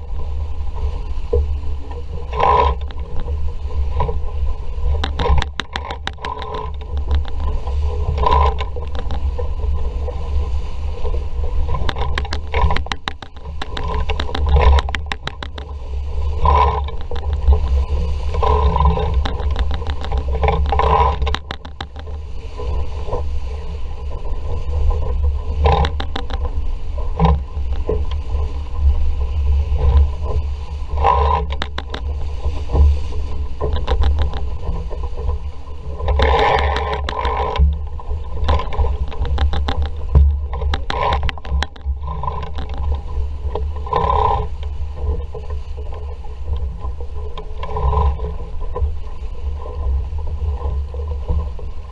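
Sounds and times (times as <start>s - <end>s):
boat knocks and rattles: 0.0s - 51.9s
water rushing past hull: 0.0s - 51.9s
wind buffeting microphone: 0.0s - 51.9s.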